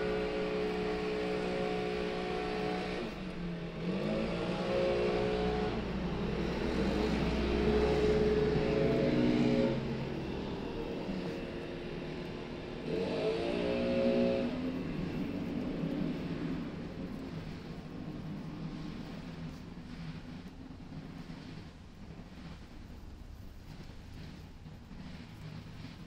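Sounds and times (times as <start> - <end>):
leaf blower running: 0.0 - 26.0.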